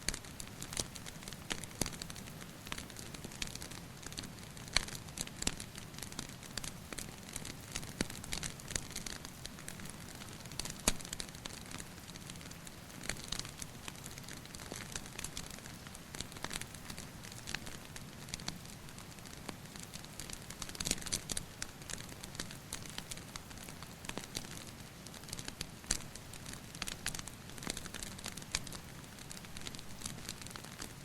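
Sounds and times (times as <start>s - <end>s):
rain dripping: 0.1s - 31.0s
wood fire crackling: 0.1s - 31.0s.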